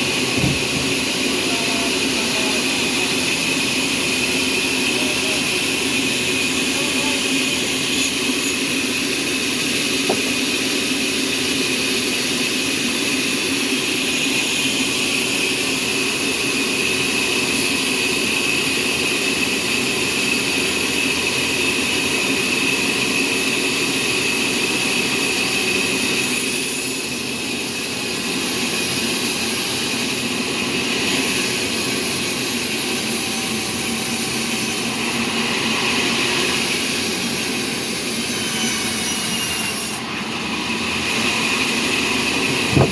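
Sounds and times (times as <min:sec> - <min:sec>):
sawmill machinery whining: 0:00.0 - 0:42.9.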